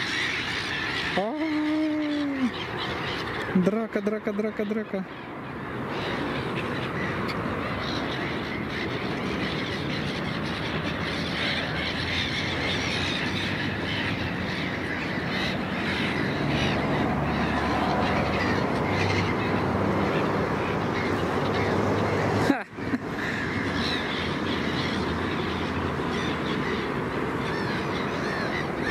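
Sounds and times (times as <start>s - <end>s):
gulls calling: 0.0s - 28.9s
steady rushing noise: 0.0s - 28.9s.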